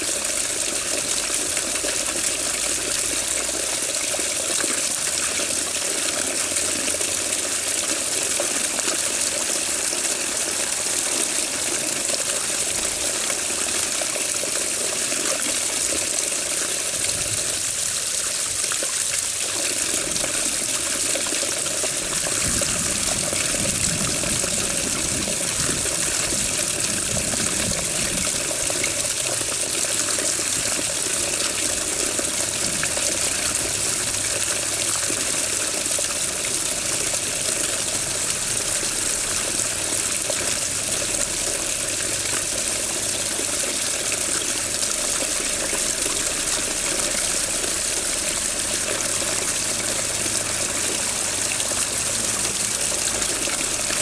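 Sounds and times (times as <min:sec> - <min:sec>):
water flowing and splashing: 0:00.0 - 0:54.0.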